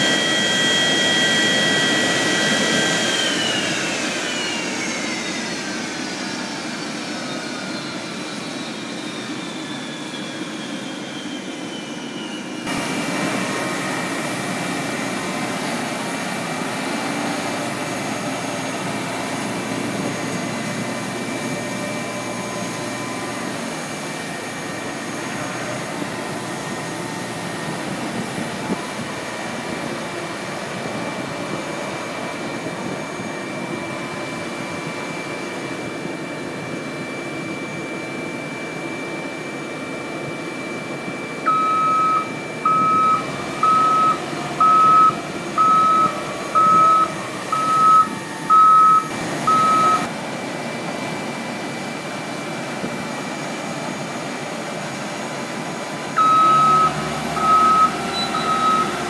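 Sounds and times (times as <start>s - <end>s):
jet turbine whine: 0.0s - 59.0s.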